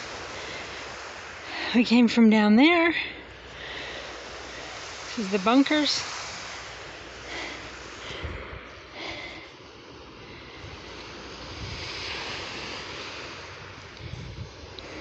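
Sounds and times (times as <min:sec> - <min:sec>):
outdoor hiss: 0:00.0 - 0:15.0
wind buffeting microphone: 0:00.0 - 0:15.0.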